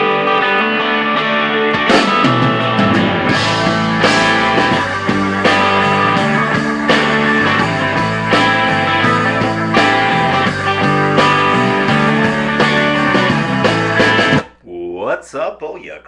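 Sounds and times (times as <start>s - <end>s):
rock music with guitar: 0.0s - 14.6s.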